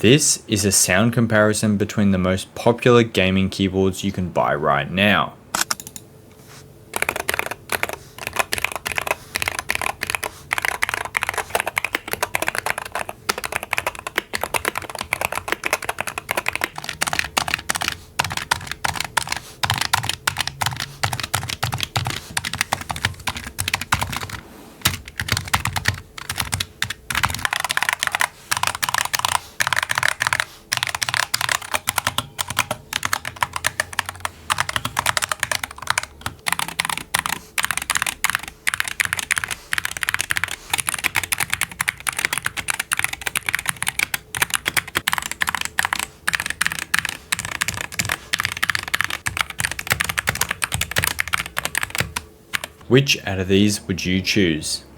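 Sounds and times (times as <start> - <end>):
rapid keyboard typing: 6.9 - 52.8.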